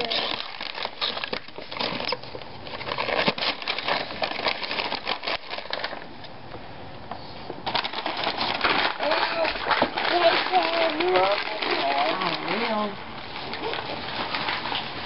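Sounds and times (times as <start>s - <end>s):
wrapping paper tearing: 0.0s - 6.1s, 7.6s - 15.0s.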